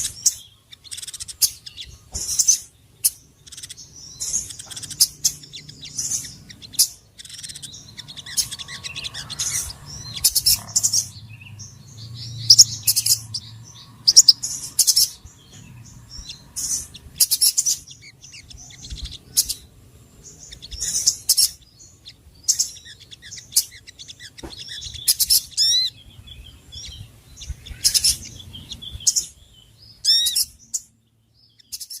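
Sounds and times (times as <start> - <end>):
high-pitched bird chirps: 0.0 - 32.0.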